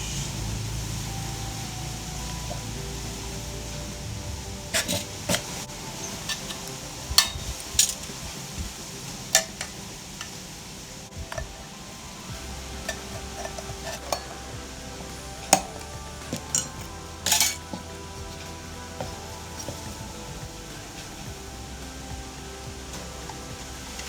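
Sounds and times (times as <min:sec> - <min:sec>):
faint background music: 0:00.0 - 0:24.0.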